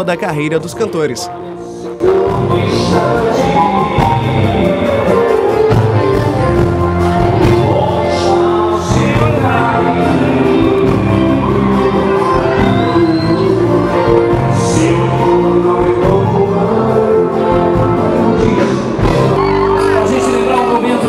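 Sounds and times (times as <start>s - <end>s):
live band playing: 0.0s - 21.0s
people singing: 1.6s - 21.0s.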